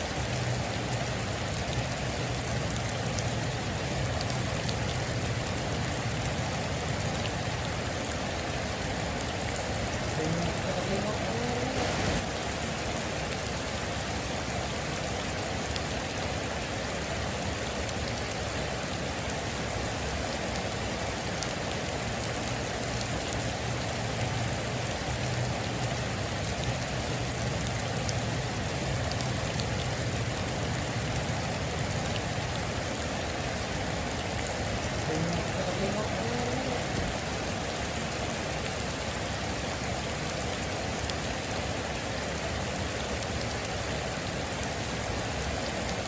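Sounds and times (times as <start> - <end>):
heavy rain on metal roof: 0.0 - 46.0.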